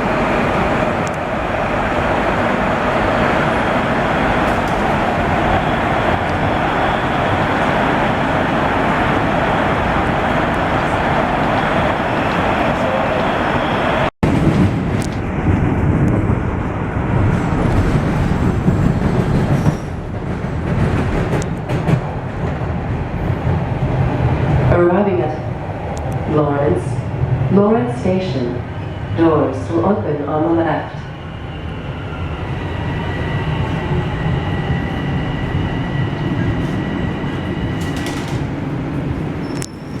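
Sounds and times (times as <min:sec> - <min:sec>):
subway train rumble and rail noise: 0:00.0 - 0:40.0.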